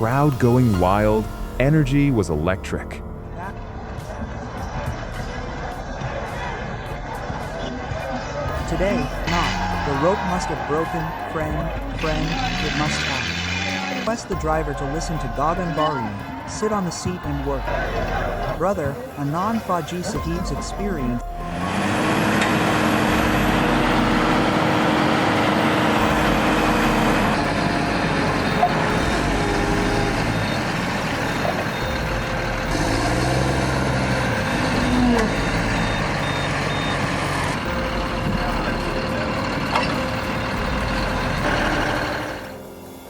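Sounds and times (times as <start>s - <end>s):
heavy vehicle engines running: 3.2s - 43.0s.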